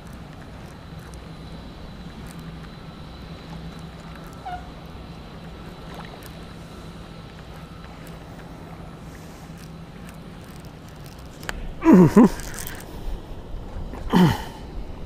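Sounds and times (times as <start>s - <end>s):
low constant hum: 0.0s - 15.0s
water noise: 0.0s - 15.0s
wind: 0.0s - 15.0s.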